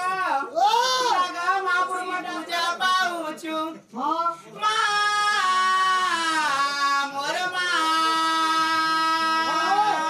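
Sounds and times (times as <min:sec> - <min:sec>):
person singing folk song: 0:00.0 - 0:10.0.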